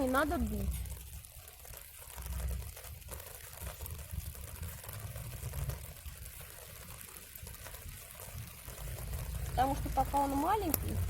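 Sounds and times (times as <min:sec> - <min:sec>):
light rain falling: 0:00.0 - 0:11.0
low uneven rumble: 0:00.0 - 0:11.0
ticks and crackles: 0:00.0 - 0:11.0.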